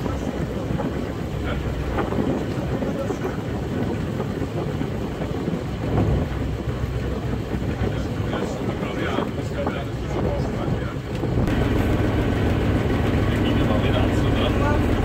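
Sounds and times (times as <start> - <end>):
boat engine rumble: 0.0 - 15.0
wind buffeting microphone: 0.0 - 15.0.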